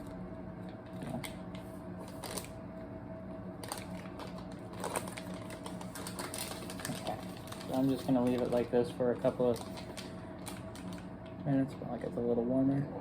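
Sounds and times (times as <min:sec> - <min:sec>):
ration heater fizzing and crackling: 0:00.0 - 0:13.0.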